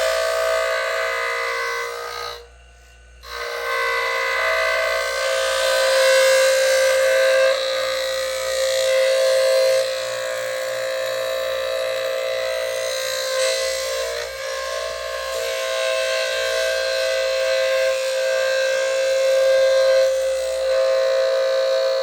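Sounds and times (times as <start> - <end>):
grinding wheel motor whine: 0.0 - 22.0.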